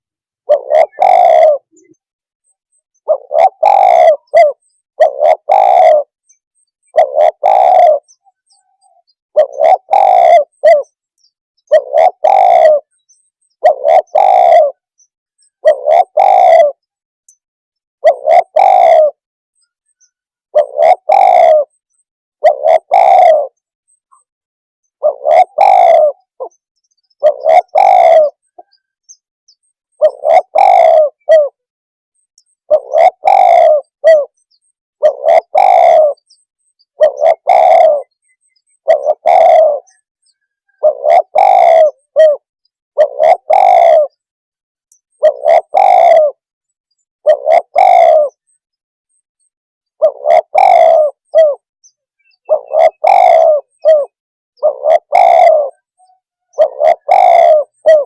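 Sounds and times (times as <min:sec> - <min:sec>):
dove cooing: 0:00.0 - 0:02.1, 0:02.9 - 0:11.0, 0:11.7 - 0:17.0, 0:18.0 - 0:19.2, 0:19.9 - 0:24.0, 0:24.9 - 0:31.7, 0:32.6 - 0:44.3, 0:45.1 - 0:46.5, 0:47.2 - 0:48.6, 0:49.9 - 0:58.0.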